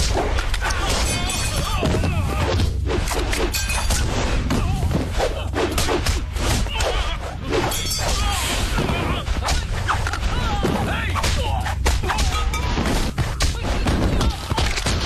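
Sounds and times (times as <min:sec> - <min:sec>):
men grunting and shouting: 0:00.6 - 0:02.8, 0:04.4 - 0:14.9.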